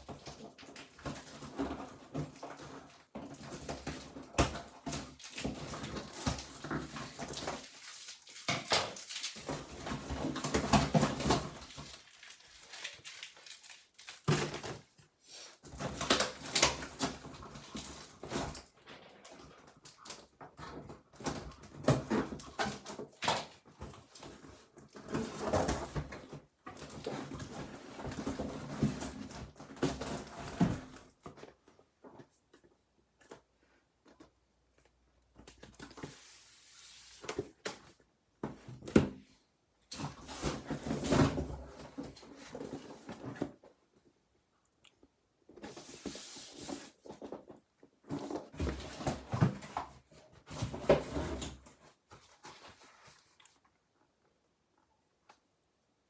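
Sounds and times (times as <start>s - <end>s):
cardboard and tape rustling: 0.0s - 44.0s, 45.4s - 54.2s.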